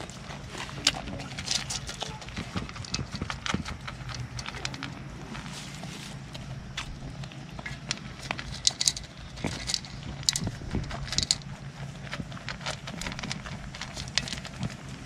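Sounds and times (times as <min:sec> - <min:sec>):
goats crunching grain: 0:00.0 - 0:15.0
grain rattling against bowl: 0:00.0 - 0:15.0.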